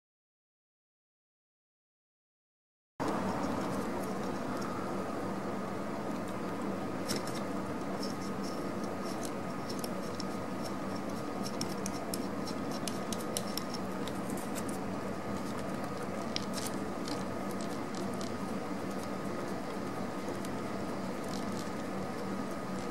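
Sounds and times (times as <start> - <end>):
steady background hum: 3.0 - 22.9.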